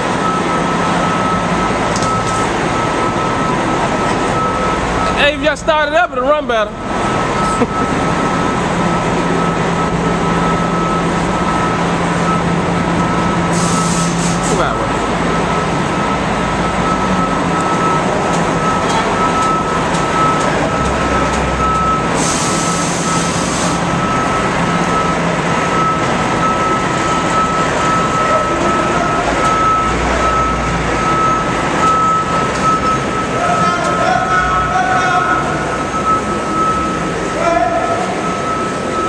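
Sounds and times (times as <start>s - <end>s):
heavy truck engine running: 0.0s - 39.0s
reversing alarm beeping: 0.0s - 39.0s.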